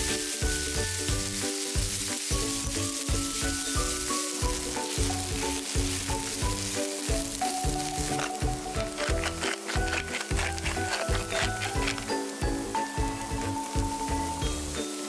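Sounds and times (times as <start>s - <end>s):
background music with low beat: 0.0s - 14.8s
onions sizzling in a frying pan: 0.0s - 15.0s
spatula stirring in pan: 0.3s - 12.4s.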